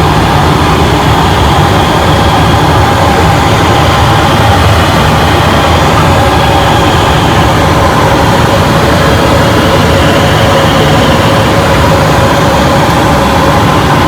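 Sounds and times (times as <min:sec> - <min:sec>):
jet engine rumble in cockpit: 0:00.0 - 0:14.0
steady whining tones: 0:00.0 - 0:14.0.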